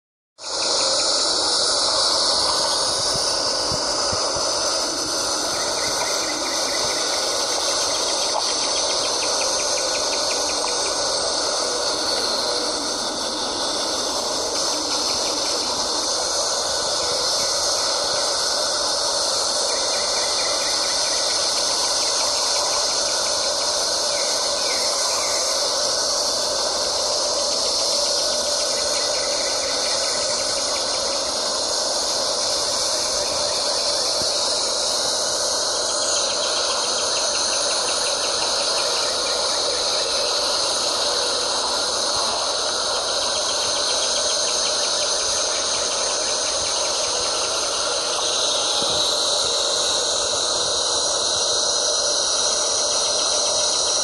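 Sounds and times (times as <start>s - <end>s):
insects chorus: 0.4s - 54.0s
pulsing insect call: 0.4s - 54.0s.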